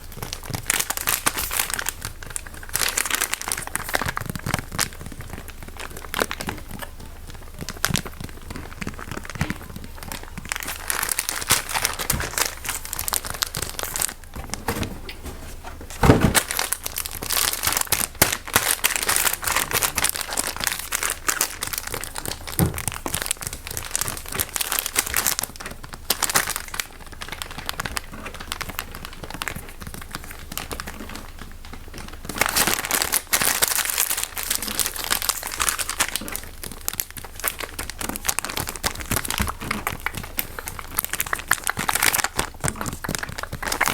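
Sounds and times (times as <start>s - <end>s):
crinkling and crumpling close up: 0.0s - 43.9s.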